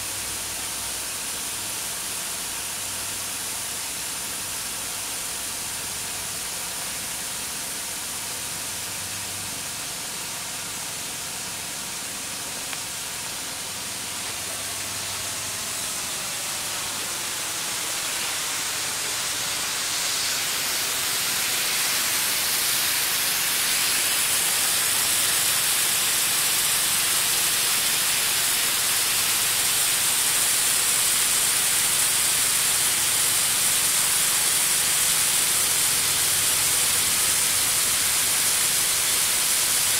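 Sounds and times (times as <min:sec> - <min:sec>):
snow gun spraying air and water: 0:00.0 - 0:39.9.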